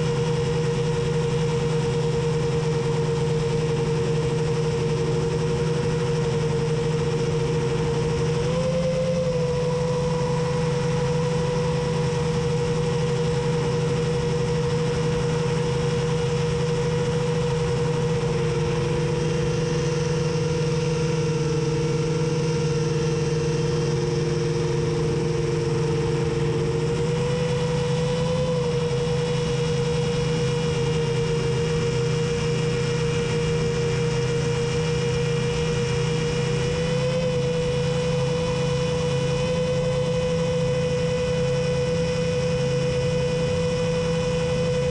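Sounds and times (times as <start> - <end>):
drone motors humming: 0.0 - 44.9.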